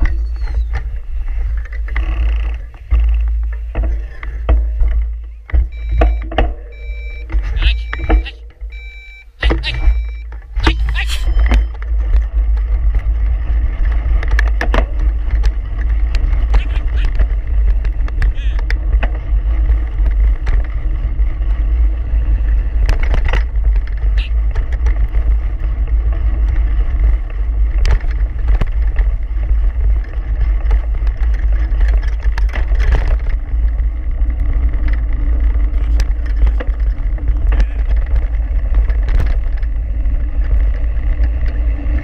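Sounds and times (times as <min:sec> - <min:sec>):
bike clicking and rattling: 0:00.0 - 0:42.0
wind and road rumble: 0:00.0 - 0:42.0.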